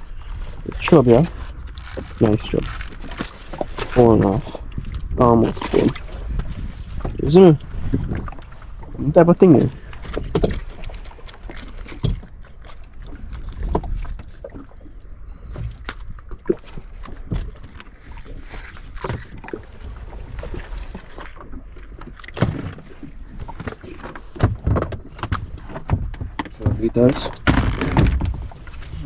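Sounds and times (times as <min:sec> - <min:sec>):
knocks and bumps in boat: 0:00.0 - 0:29.0
water and wind against hull: 0:00.0 - 0:29.0.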